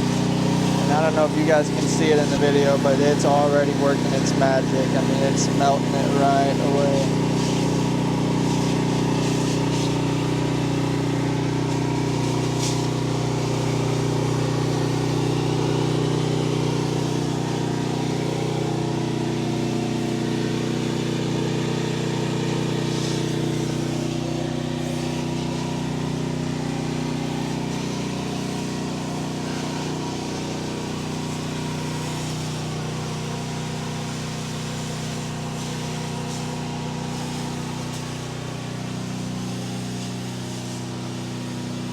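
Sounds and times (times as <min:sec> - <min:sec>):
engine-driven pump droning: 0:00.0 - 0:41.9.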